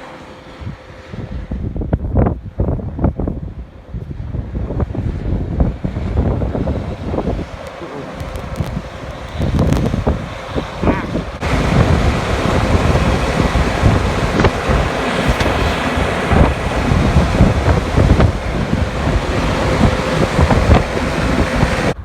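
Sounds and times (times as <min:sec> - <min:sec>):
strong wind buffeting microphone: 0:00.3 - 0:22.0.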